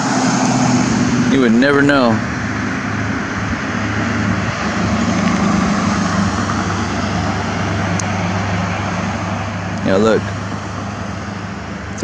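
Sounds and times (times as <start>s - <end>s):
mechanical drone with low hum: 0.0s - 12.0s.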